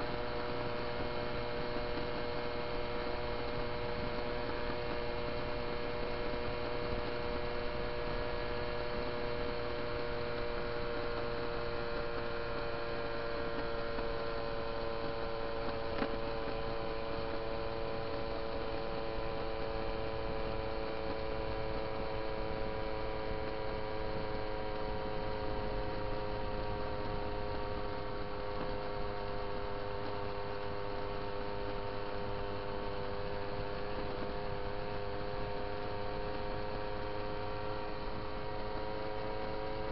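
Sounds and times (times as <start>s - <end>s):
moped engine buzzing: 0.0s - 39.9s.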